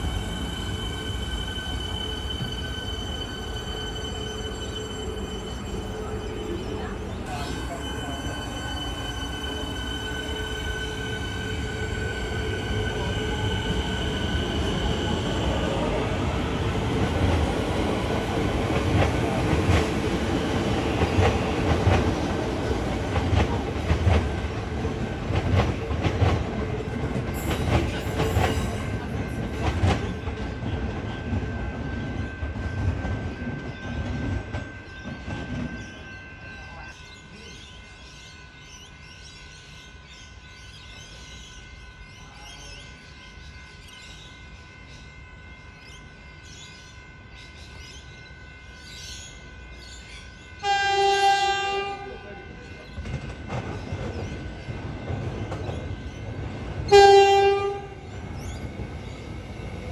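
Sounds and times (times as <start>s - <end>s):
train whine: 0.0s - 59.9s.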